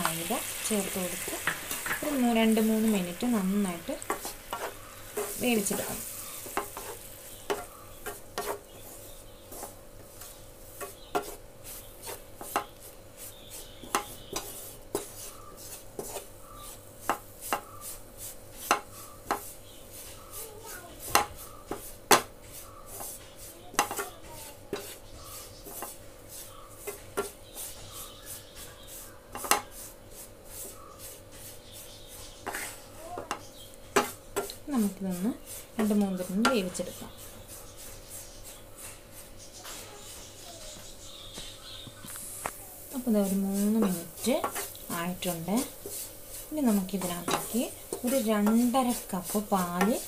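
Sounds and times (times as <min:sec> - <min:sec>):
spatula scraping a frying pan: 0:00.1 - 0:20.4, 0:21.0 - 0:41.2, 0:42.2 - 0:50.0.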